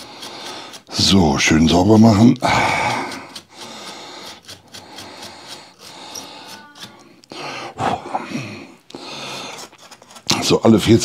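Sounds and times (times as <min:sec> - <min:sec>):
brush scrubbing fan blades: 0:00.0 - 0:08.1, 0:08.7 - 0:11.0.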